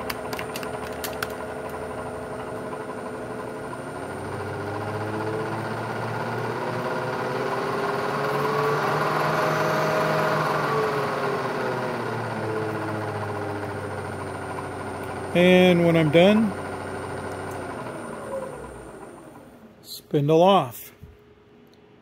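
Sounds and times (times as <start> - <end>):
milling machine spindle whine: 0.0 - 19.7.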